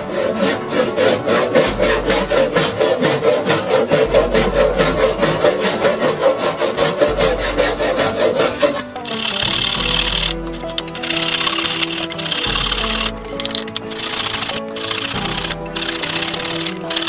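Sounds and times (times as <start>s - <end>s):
hand saw cutting wood: 0.0s - 17.0s.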